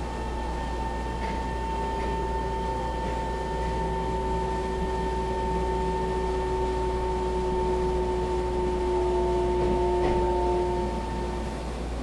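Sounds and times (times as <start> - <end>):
electric train whine: 0.0 - 12.0
low train rumble: 0.0 - 12.0.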